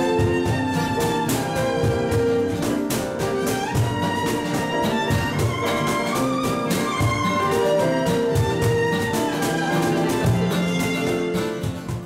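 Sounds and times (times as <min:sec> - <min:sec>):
piano: 0:00.0 - 0:12.0
strummed acoustic guitar: 0:00.0 - 0:12.0
violin melody: 0:00.0 - 0:12.0.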